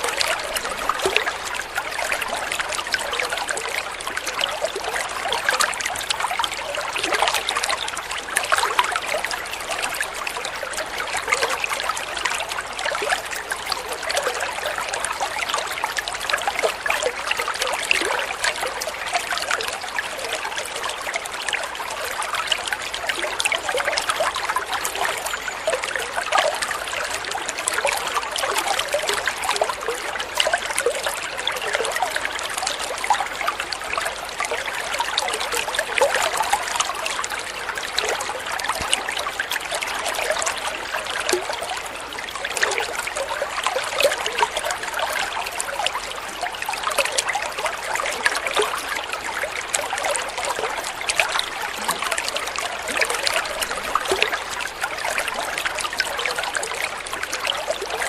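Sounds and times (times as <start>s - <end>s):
water trickling over stream bed: 0.0s - 58.0s.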